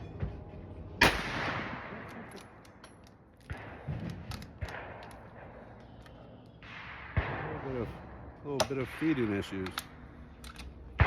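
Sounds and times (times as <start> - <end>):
rifle shot echoing: 1.0 - 2.7, 3.4 - 11.0.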